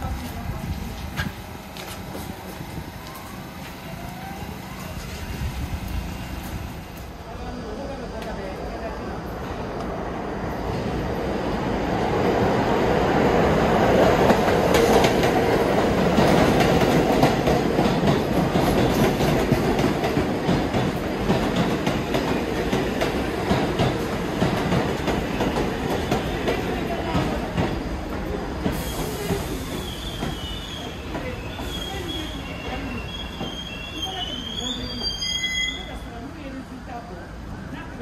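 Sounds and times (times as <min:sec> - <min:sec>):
subway train wheels clacking: 0:00.0 - 0:37.0.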